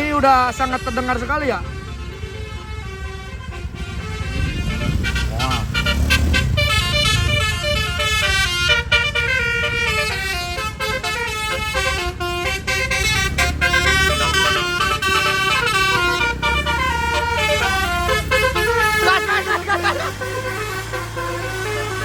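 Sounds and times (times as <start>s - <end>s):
bus musical horn melody: 0.0s - 22.0s
low engine rumble: 0.0s - 22.0s.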